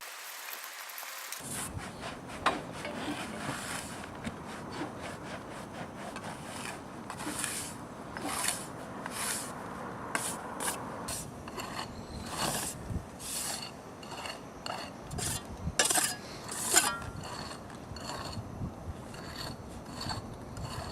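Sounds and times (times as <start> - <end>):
rasping scrapes: 1.4 - 9.6, 10.2 - 20.9.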